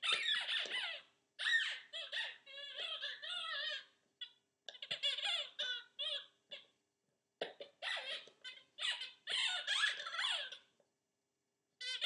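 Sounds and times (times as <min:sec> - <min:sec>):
squeaky dog toy squeaking: 0:00.0 - 0:06.7, 0:07.4 - 0:10.7, 0:11.8 - 0:12.0.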